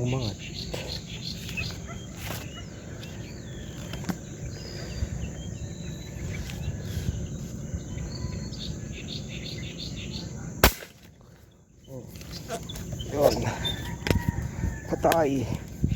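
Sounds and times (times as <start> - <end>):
insects calling: 0.0 - 15.9
small birds chirping: 0.0 - 15.9.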